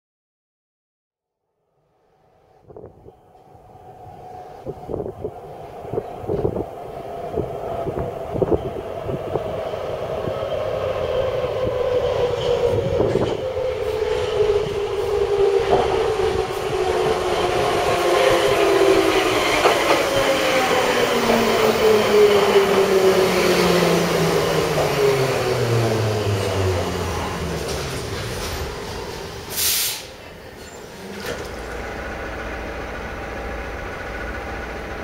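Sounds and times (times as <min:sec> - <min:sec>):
metro train arriving: 0:02.0 - 0:35.0.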